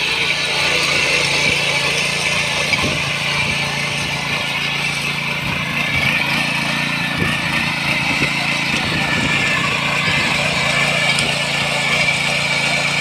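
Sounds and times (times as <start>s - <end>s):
power weeder engine running: 0.0s - 13.0s
tines churning soil: 0.0s - 13.0s.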